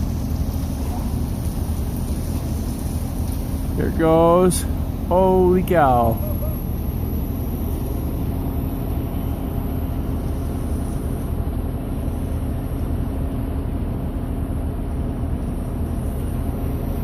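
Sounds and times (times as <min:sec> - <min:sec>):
low mechanical hum: 0:00.0 - 0:17.0
noisy wash: 0:00.0 - 0:17.0.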